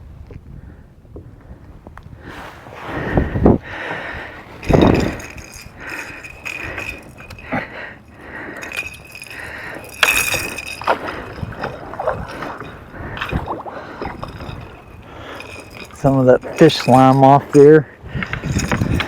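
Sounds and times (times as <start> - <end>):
fishing gear knocking and clinking: 3.7 - 19.0.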